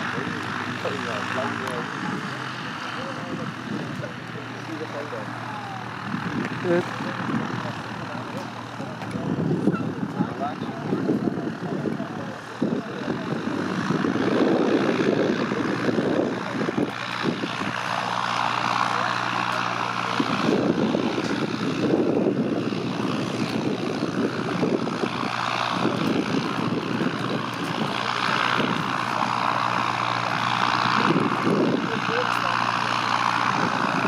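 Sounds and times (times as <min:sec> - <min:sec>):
low drone of piston planes: 0:00.0 - 0:34.0
propeller whoosh passing overhead: 0:00.0 - 0:34.0.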